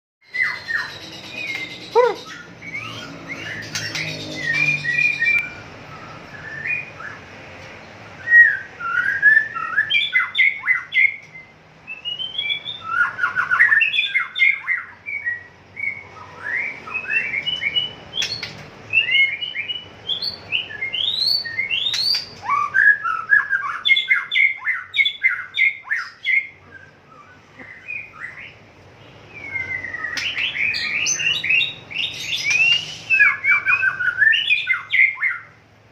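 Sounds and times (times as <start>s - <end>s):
bird singing whistled phrases: 0.2s - 7.2s, 8.2s - 28.6s, 29.2s - 35.6s.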